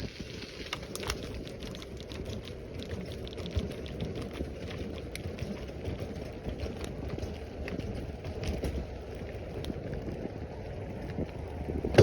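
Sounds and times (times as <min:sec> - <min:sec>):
bicycle tyres rumbling on gravel: 0:00.0 - 0:12.0
stones ticking and bike rattling: 0:00.0 - 0:12.0
wind: 0:00.0 - 0:12.0.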